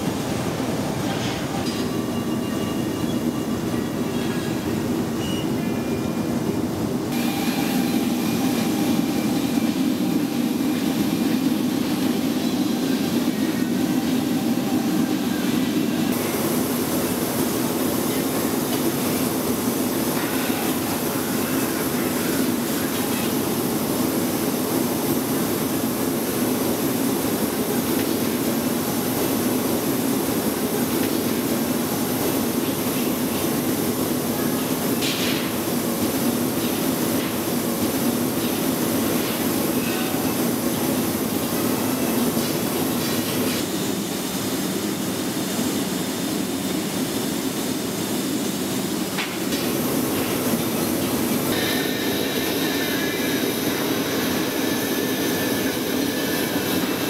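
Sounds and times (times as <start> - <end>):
furnaces and blowers roaring: 0.0 - 57.0.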